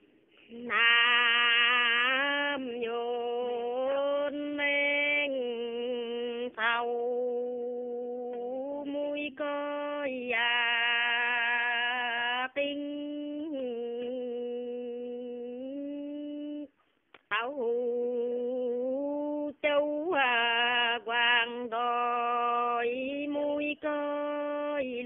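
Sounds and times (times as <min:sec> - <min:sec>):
elderly woman singing: 0:00.5 - 0:25.0.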